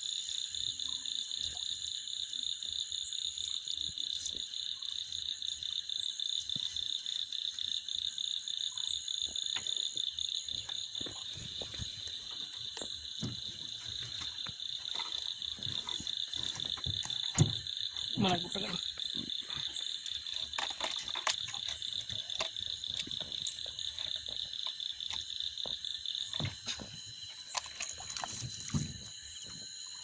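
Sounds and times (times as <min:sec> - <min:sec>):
frogs croaking: 0:00.0 - 0:30.0
insects trilling: 0:00.0 - 0:30.0.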